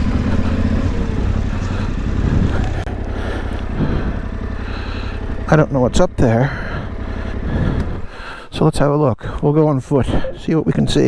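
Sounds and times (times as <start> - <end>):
motorcycle engine running low: 0.0 - 11.0.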